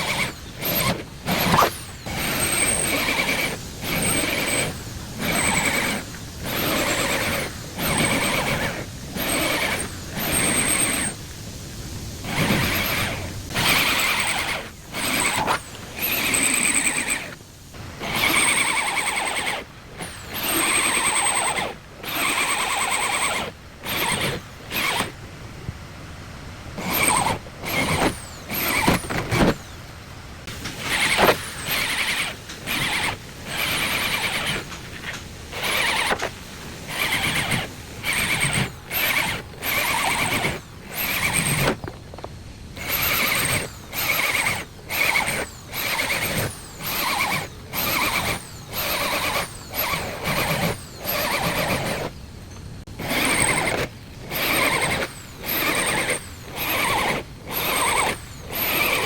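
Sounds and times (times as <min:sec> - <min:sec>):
power tool whining on sheet metal: 0:00.0 - 0:25.2, 0:26.8 - 0:29.8, 0:30.5 - 0:59.0.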